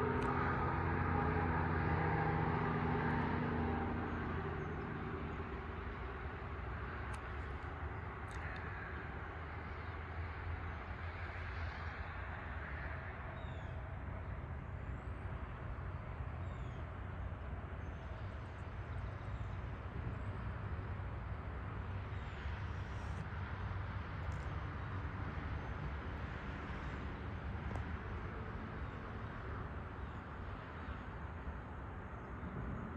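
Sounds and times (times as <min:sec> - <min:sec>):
distant road traffic rumble: 0:00.0 - 0:32.9.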